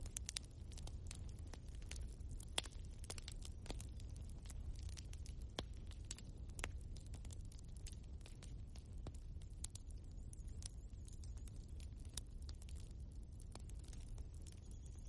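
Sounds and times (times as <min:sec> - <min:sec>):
log fire crackling: 0:00.0 - 0:15.0.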